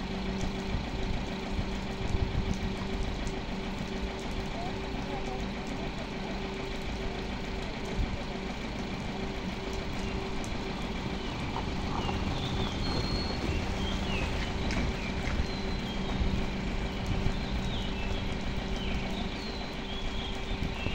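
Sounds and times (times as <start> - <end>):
crane winching: 0.0 - 20.9
van engine running: 0.0 - 20.9.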